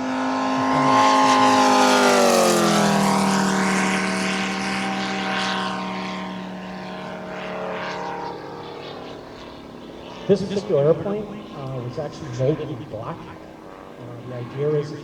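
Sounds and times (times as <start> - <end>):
model plane engine flying past: 0.0 - 15.0.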